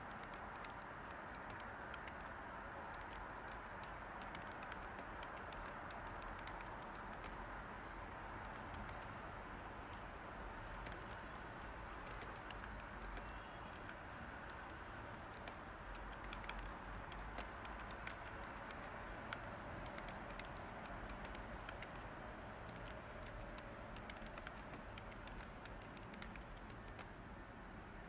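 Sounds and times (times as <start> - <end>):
keyboard key clicks: 0.0 - 7.4, 8.3 - 9.1, 10.7 - 27.1
white noise hiss: 0.0 - 28.0.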